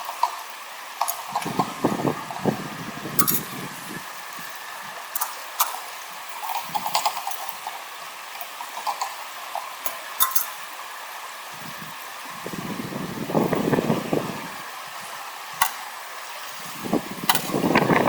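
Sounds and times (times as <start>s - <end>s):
water running and splashing: 0.0s - 18.0s.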